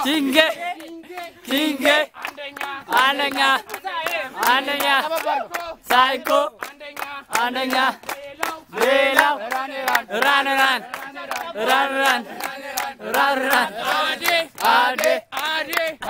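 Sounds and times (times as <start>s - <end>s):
men chanting: 0.0s - 16.0s
rhythmic hand clapping: 0.0s - 16.0s.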